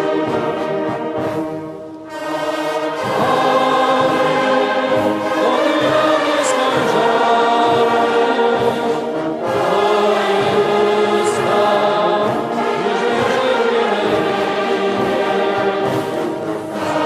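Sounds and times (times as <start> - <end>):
choir singing slow chords: 0.0 - 17.0.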